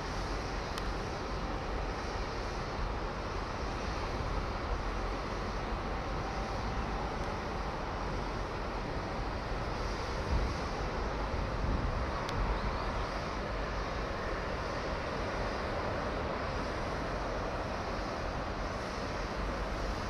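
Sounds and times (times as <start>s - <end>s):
even hiss: 0.0s - 20.0s.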